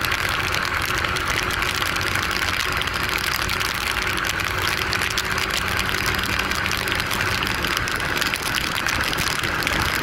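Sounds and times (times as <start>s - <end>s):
motorcycle engine hum: 0.0s - 10.0s
wet road spray: 0.0s - 10.0s.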